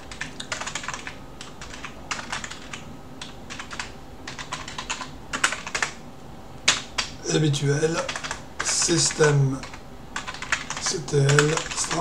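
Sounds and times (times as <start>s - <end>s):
computer keyboard typing: 0.0s - 6.0s, 6.6s - 7.1s, 8.0s - 12.0s.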